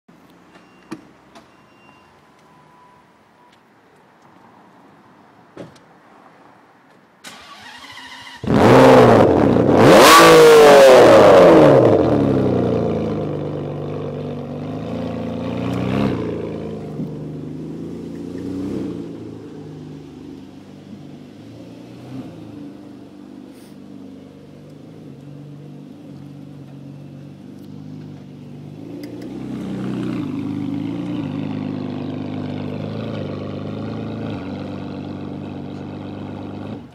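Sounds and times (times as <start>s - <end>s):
car engine starting and revving: 7.2s - 36.9s.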